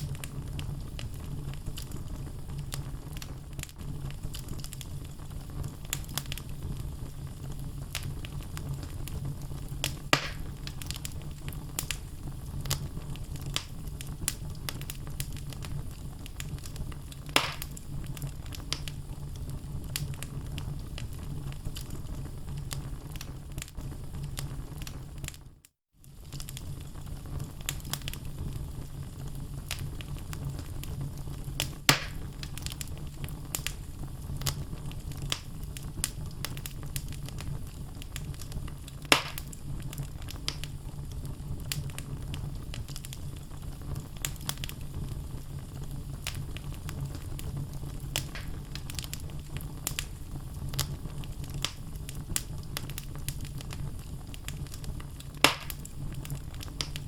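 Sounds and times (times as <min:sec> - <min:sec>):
loud sharp pops of fire: 0:00.0 - 0:25.5, 0:26.1 - 0:57.0
logs burning in a fireplace: 0:00.0 - 0:57.0.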